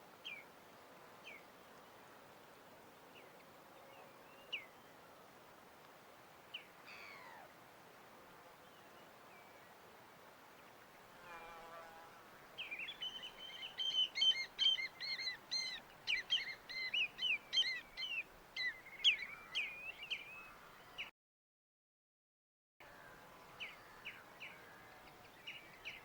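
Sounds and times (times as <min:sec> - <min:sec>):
faint steady hiss: 0:00.0 - 0:21.1, 0:22.8 - 0:26.0.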